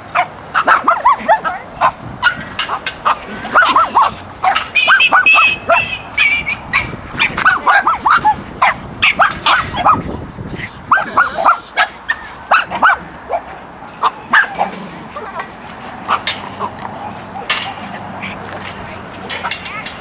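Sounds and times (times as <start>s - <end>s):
dog yapping: 0.2s - 10.2s, 10.9s - 20.0s.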